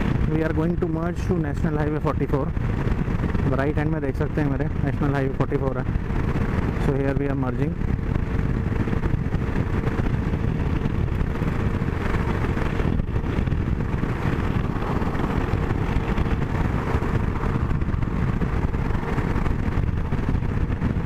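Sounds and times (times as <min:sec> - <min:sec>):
motorcycle engine running: 0:00.0 - 0:21.0
wind noise rushing: 0:00.0 - 0:21.0.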